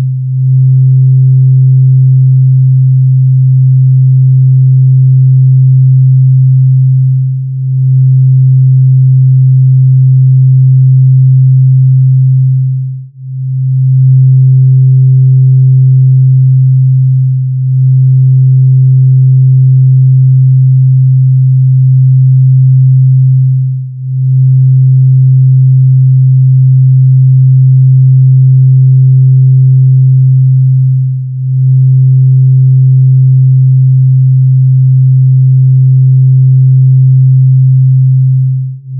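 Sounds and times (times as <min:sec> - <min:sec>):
drone music low tone: 0:00.0 - 0:38.9
faint higher tone: 0:00.0 - 0:38.9.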